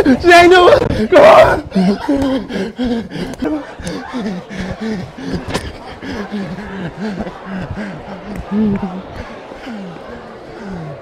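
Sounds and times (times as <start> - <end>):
indistinct talk: 0.0 - 11.0
people laughing: 0.0 - 11.0.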